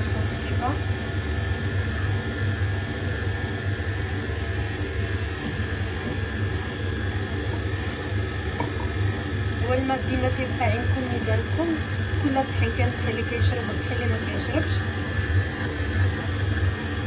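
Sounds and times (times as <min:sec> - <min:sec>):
stand mixer motor humming: 0:00.0 - 0:17.0.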